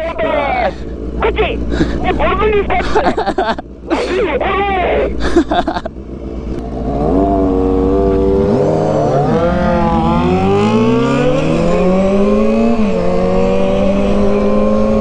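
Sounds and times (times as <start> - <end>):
motorcycle engines accelerating: 0.0 - 15.0.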